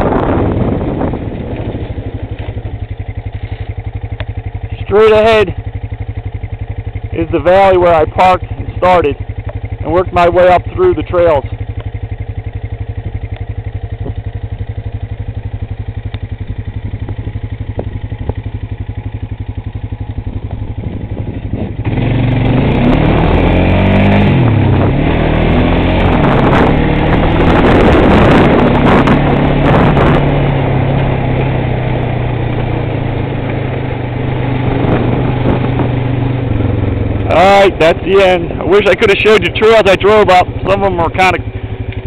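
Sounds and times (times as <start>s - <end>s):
atv engine idling and revving: 0.0s - 42.0s.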